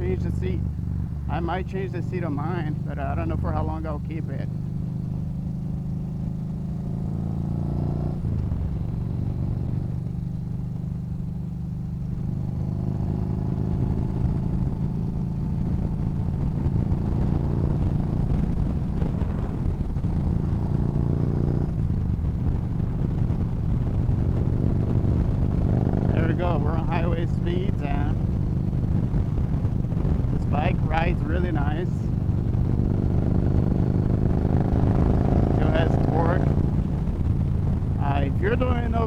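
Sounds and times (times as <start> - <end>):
low wind rumble: 0.0 - 39.0
motorcycle engine accelerating: 0.0 - 39.0.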